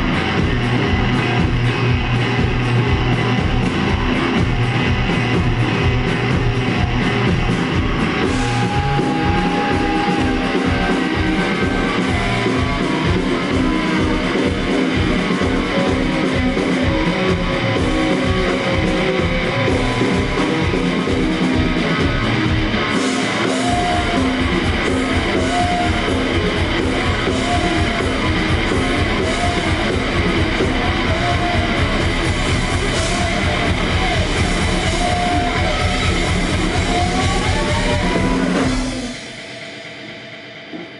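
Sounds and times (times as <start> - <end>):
bass: 0.0 - 40.9
drum kit: 0.0 - 40.9
electric guitar: 0.0 - 40.9.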